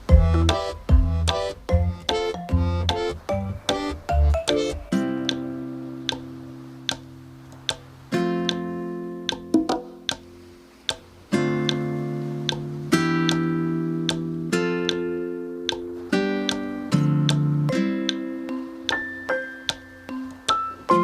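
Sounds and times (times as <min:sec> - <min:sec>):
light ticking beat: 0:00.0 - 0:21.0.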